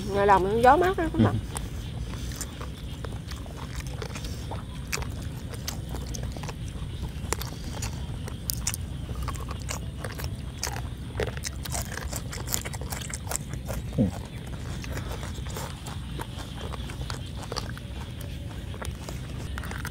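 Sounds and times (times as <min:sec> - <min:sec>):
people chewing and biting: 0:00.0 - 0:19.9
fingers tearing meat: 0:01.5 - 0:19.9.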